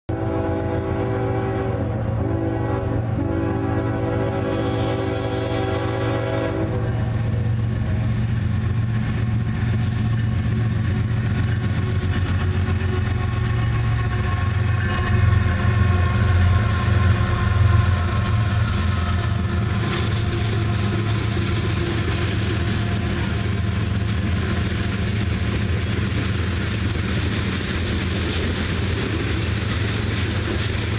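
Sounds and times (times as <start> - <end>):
diesel locomotive engine rumble: 0.1 - 30.9.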